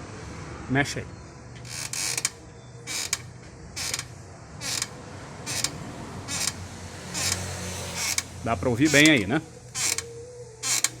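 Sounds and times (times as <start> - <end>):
suspension creaking clicks: 1.5 - 8.3, 8.9 - 11.0.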